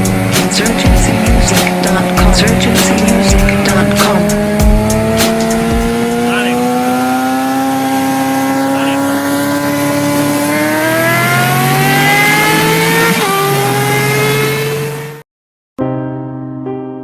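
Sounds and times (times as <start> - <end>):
vehicle engine revving high: 0.0 - 15.2.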